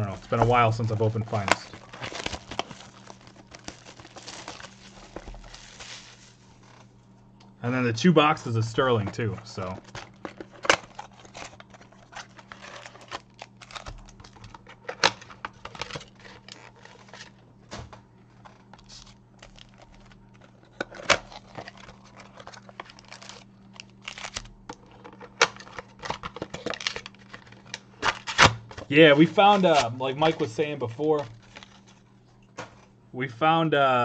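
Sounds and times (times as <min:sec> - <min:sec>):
packaging tearing and crinkling: 0:00.0 - 0:06.8, 0:09.5 - 0:17.3, 0:18.8 - 0:32.0
cards and wrappers rustling: 0:00.0 - 0:06.9, 0:08.7 - 0:17.4, 0:18.3 - 0:32.9
faint hum: 0:00.0 - 0:34.0.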